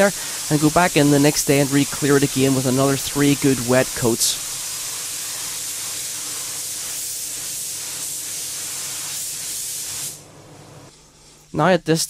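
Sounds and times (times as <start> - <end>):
spray gun hissing: 0.0 - 10.2.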